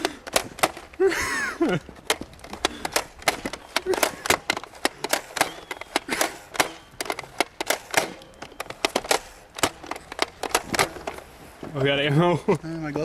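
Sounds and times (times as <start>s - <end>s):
sharp clicks and crackles: 0.0s - 11.3s.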